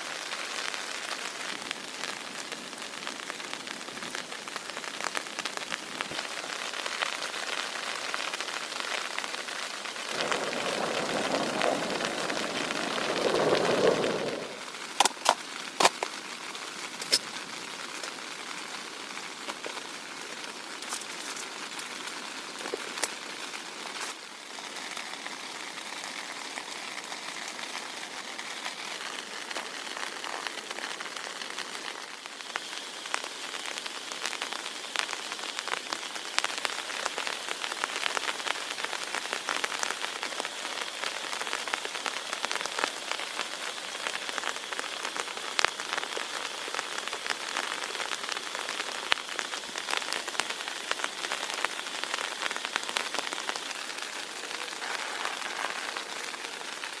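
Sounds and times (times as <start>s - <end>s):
heavy rain falling: 0.0s - 57.0s
raindrops ticking on a surface: 0.0s - 57.0s.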